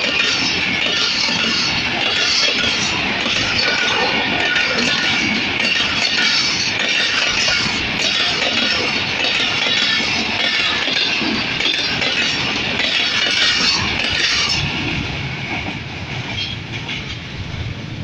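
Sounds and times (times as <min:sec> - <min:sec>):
train coaches passing at speed: 0:00.0 - 0:18.0
wheels clickety-clack over rails: 0:00.0 - 0:18.0.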